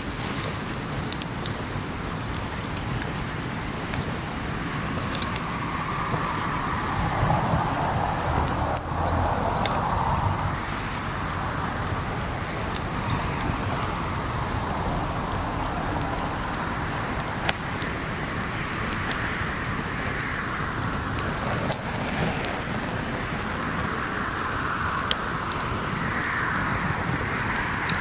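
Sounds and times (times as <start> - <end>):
campfire crackling and popping: 0.0 - 28.0
steady rushing: 2.9 - 28.0.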